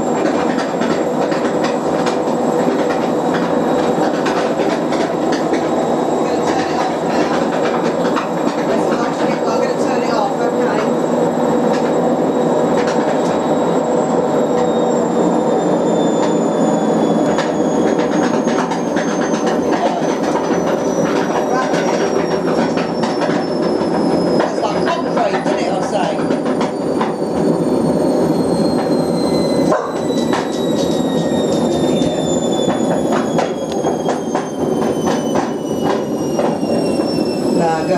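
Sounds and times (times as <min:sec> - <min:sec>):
washing machine clattering: 0:00.0 - 0:12.1, 0:15.9 - 0:37.9
high motor whine: 0:00.0 - 0:37.9.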